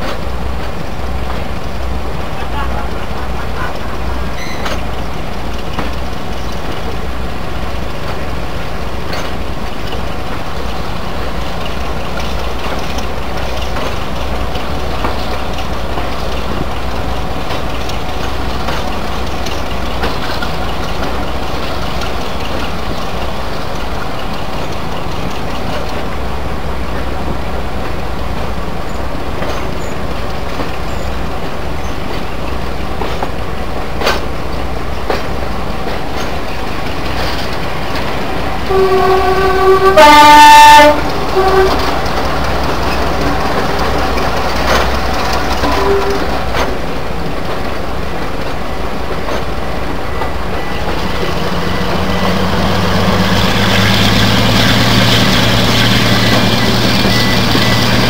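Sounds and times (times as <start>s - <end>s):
diesel locomotive idling: 0.0s - 58.0s
locomotive approaching slowly: 0.0s - 58.0s.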